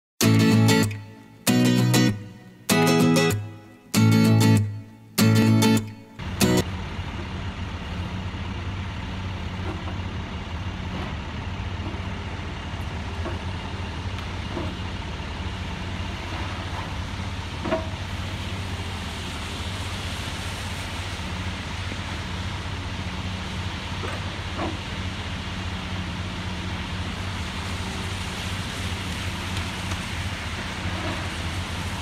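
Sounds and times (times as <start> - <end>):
excavator diesel engine droning: 0.2 - 32.0.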